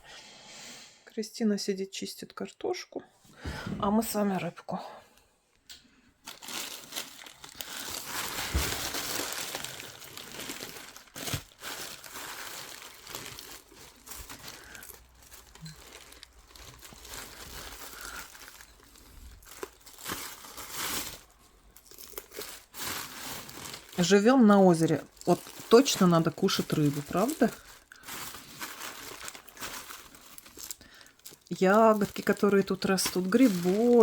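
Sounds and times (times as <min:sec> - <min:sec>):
crinkling and rustling: 0:06.2 - 0:34.0.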